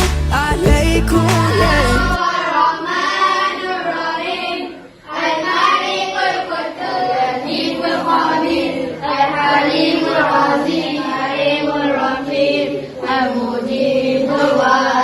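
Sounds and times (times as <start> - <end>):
children singing in chorus: 1.4 - 15.0.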